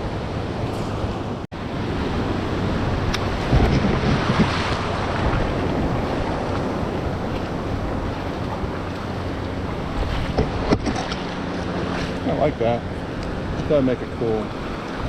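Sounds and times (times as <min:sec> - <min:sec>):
ocean surf washing on beach: 0:00.0 - 0:15.0
wind buffeting microphone: 0:00.0 - 0:15.0.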